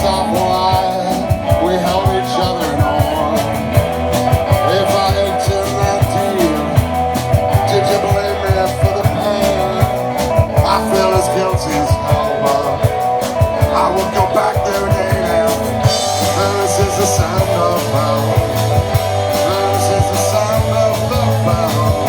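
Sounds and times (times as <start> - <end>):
electric guitar: 0.0 - 22.0
rock band playing live: 0.0 - 22.0
steady drum beat: 0.0 - 22.0.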